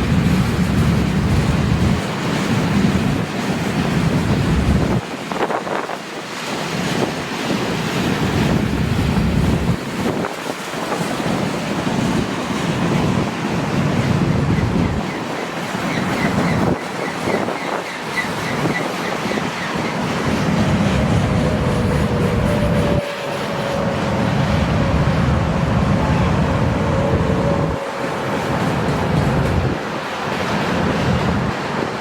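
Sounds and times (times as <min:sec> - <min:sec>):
freight train rumble: 0:00.0 - 0:32.0
wind buffeting microphone: 0:00.0 - 0:32.0.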